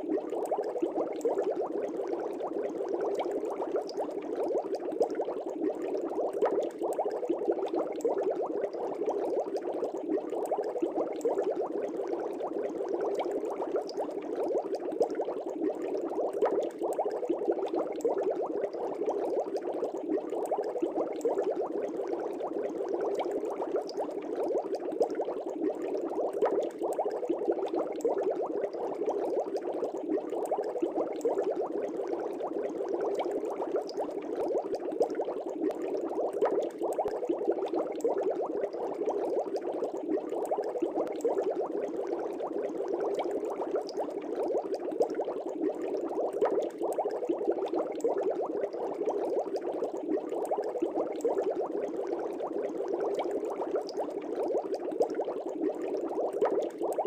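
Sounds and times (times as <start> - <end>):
aquarium air bubbling: 0.0 - 57.0.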